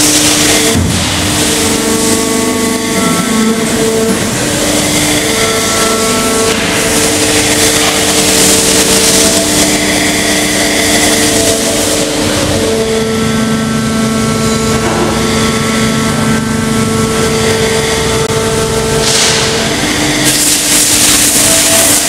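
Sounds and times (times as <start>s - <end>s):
injection moulding machine drone: 0.0s - 22.0s.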